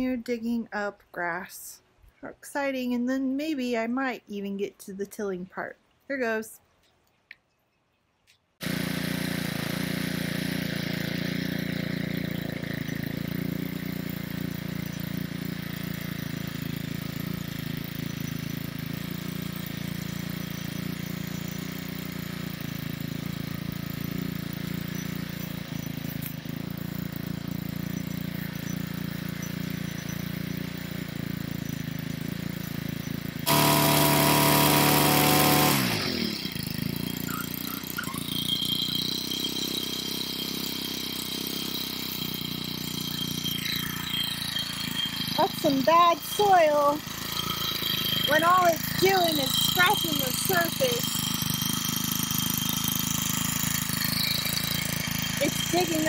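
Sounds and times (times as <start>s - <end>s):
garden tiller engine: 8.6s - 56.0s.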